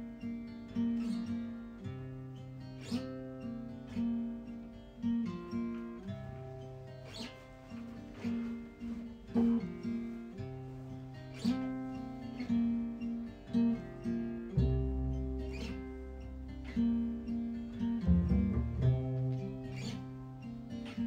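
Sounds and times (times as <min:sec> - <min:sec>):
guitar plucking notes: 0:00.0 - 0:21.0.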